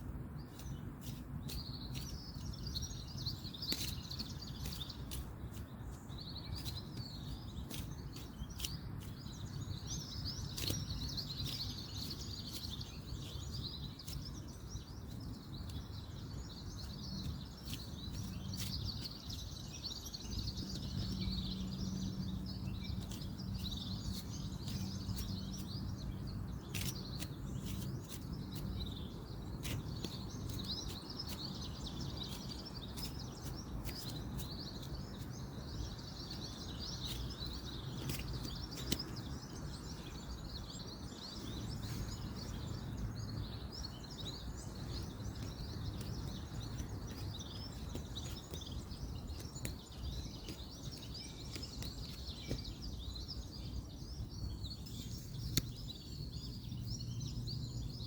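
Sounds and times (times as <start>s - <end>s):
distant road traffic rumble: 0.0s - 58.0s
small birds chirping: 0.0s - 58.0s.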